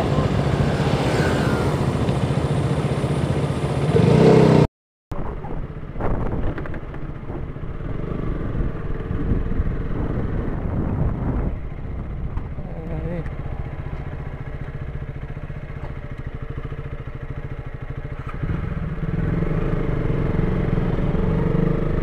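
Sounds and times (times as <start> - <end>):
motorcycle engine revving: 0.0 - 4.7, 5.3 - 22.0.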